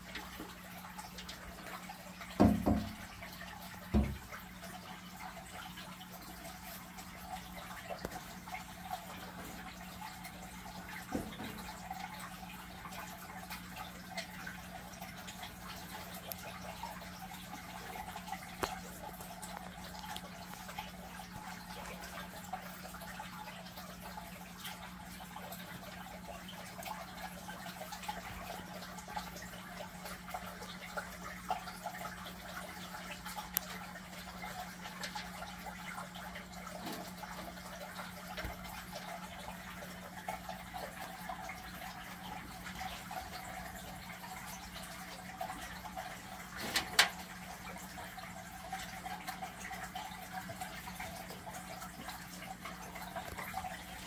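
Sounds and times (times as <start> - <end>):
aquarium water trickling: 0.0 - 54.0.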